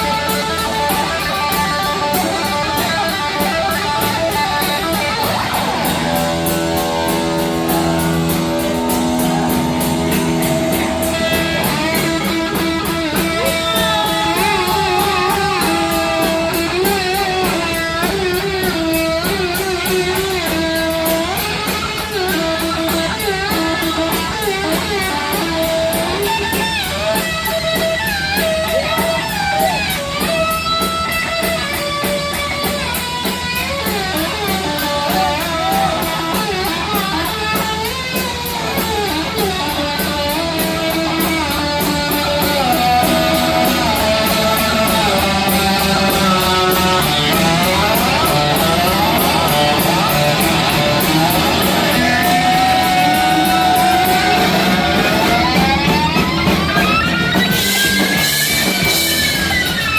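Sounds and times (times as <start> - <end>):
bass guitar: 0.0 - 59.9
distorted electric guitar lead: 0.0 - 59.9
rapid drumming: 0.0 - 59.9.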